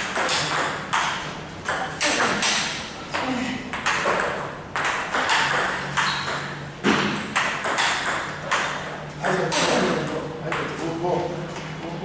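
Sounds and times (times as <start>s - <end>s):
table tennis ball hit by bats: 0.0s - 10.7s
table tennis ball bouncing: 0.0s - 10.8s.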